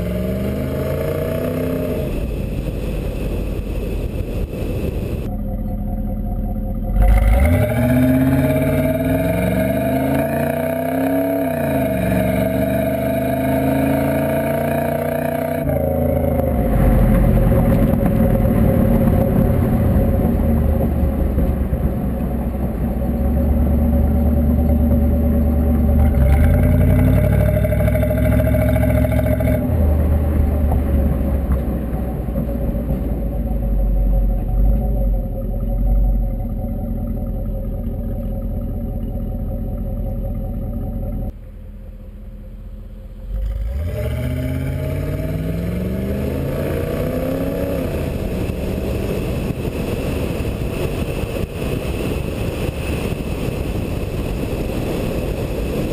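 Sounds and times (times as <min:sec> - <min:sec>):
car engine exhaust accelerating: 0:00.0 - 0:55.9.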